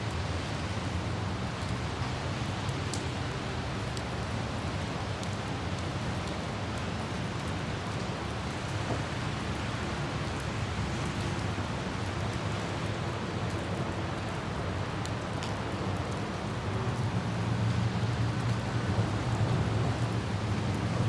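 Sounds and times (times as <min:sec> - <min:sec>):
light rain droplets: 0:00.0 - 0:21.0
road traffic rumble: 0:00.0 - 0:21.0.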